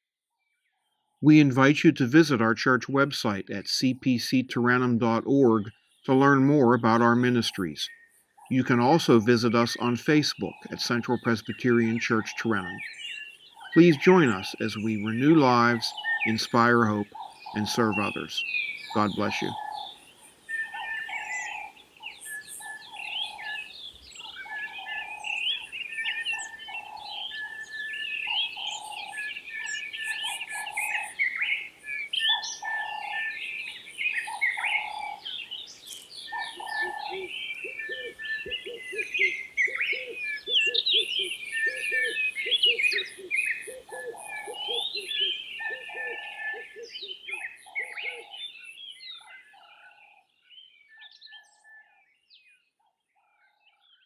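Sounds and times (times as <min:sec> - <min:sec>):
songbirds chirping and whistling: 0:01.2 - 0:54.0.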